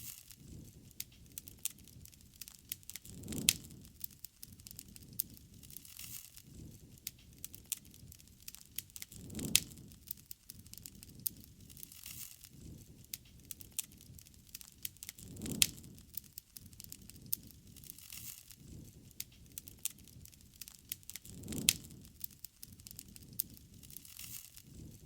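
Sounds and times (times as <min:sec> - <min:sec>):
fire snapping and popping: 0:00.0 - 0:25.0
soft rush of flames: 0:00.0 - 0:25.0
wood fire crackling: 0:00.0 - 0:25.0.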